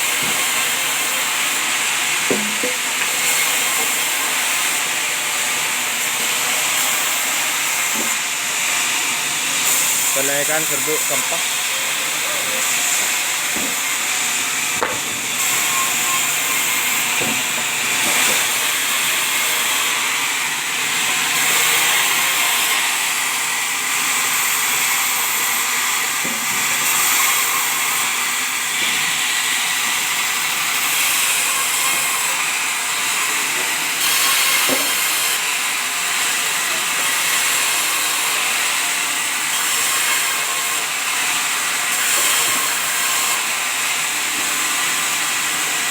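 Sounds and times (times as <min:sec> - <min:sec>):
sawmill machinery hiss: 0:00.0 - 0:45.9.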